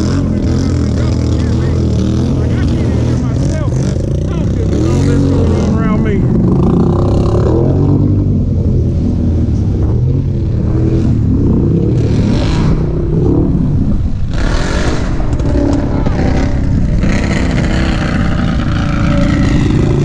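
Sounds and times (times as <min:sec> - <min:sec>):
atv engines revving: 0:00.0 - 0:20.0.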